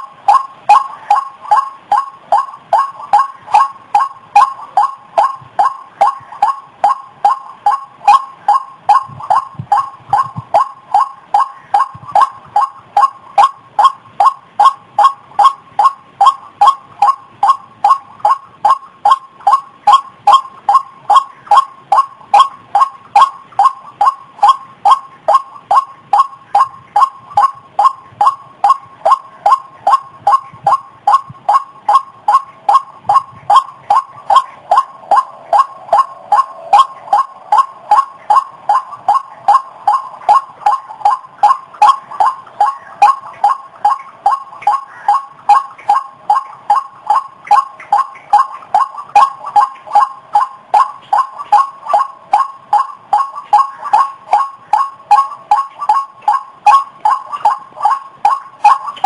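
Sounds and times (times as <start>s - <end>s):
waterhen call repeated notes: 0.0s - 59.0s.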